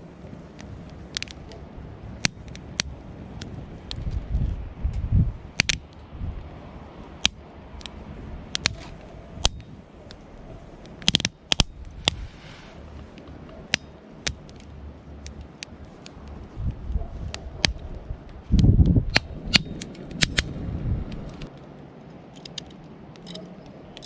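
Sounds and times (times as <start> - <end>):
wood campfire crackling: 0.0 - 24.0.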